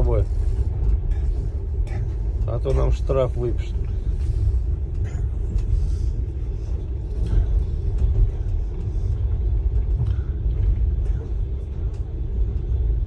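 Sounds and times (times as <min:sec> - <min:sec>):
train rumble from inside: 0:00.0 - 0:13.0.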